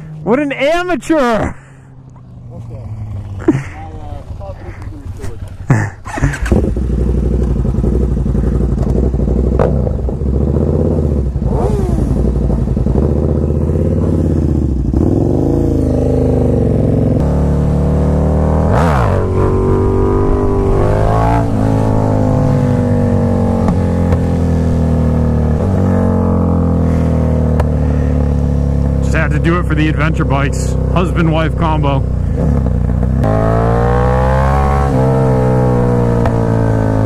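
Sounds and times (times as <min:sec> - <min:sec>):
motorcycle engine revving: 0:00.0 - 0:00.8, 0:01.6 - 0:37.0.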